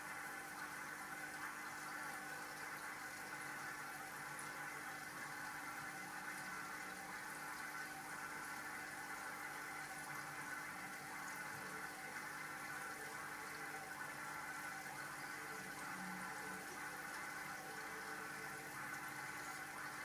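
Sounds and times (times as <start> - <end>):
aquarium filter bubbling water: 0.0 - 20.0.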